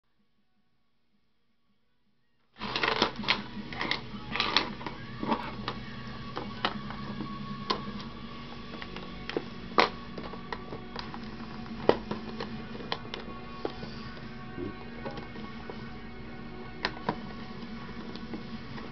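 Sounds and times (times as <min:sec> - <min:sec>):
background music: 0:00.1 - 0:18.9.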